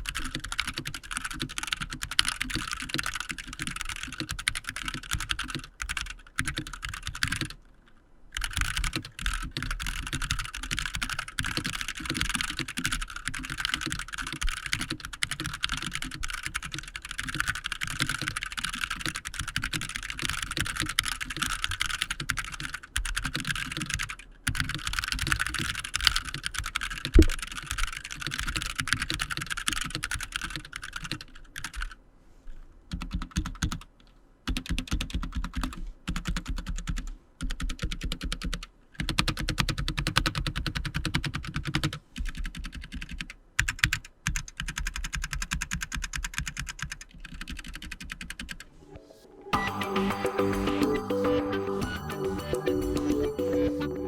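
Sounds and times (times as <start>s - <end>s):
mechanical keyboard typing: 0.0s - 7.6s, 8.4s - 32.0s, 32.9s - 33.9s, 34.5s - 48.7s.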